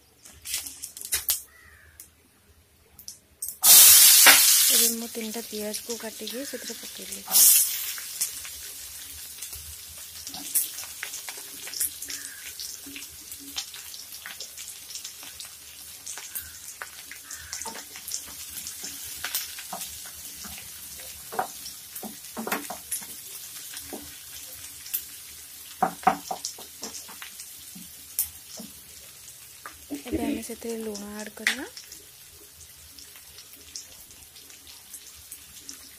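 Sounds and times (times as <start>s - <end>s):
onions sizzling in hot oil: 3.6s - 35.9s.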